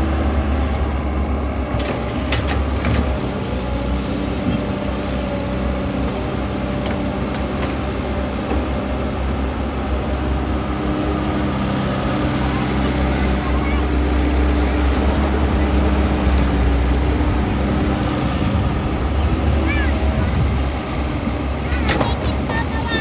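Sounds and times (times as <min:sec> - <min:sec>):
drilling machine engine running: 0:00.0 - 0:23.0.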